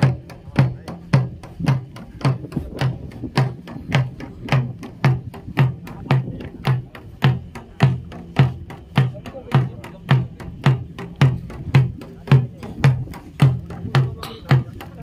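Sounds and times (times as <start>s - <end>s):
drum beaten steadily: 0.0s - 15.0s.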